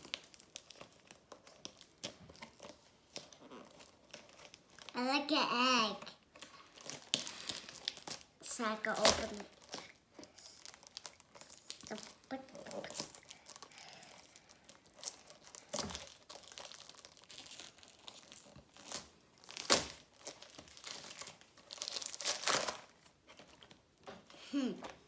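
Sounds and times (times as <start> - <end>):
packaging crinkling and tearing: 0.0 - 5.1, 5.8 - 25.0.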